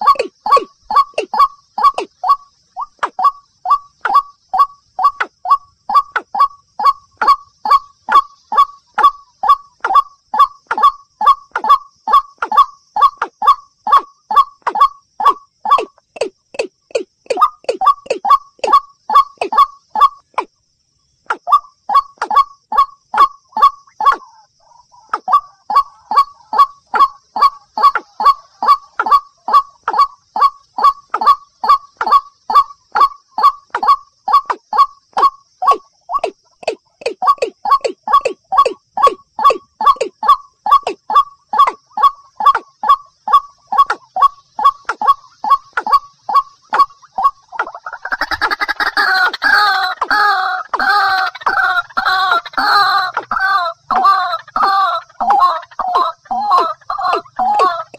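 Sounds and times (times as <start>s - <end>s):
bird calls: 0.0s - 57.9s.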